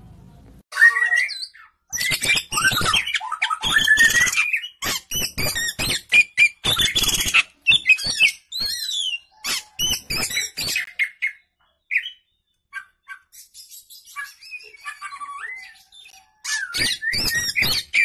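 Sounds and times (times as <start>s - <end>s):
bird singing varied whistles: 0.8s - 12.2s, 12.8s - 18.0s.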